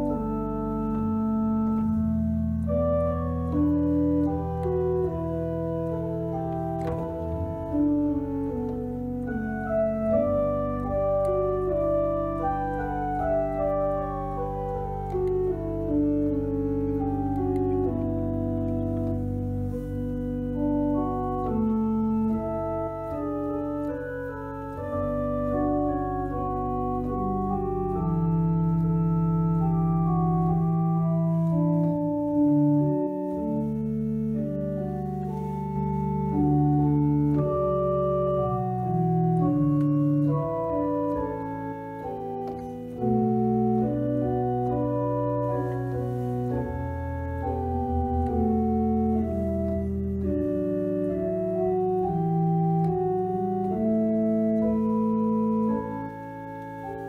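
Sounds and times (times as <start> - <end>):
church organ playing a hymn: 0.0 - 57.0.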